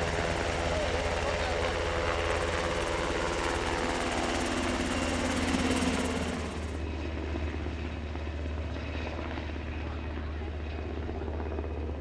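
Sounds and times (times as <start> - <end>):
helicopter engines and rotor: 0.0 - 12.0.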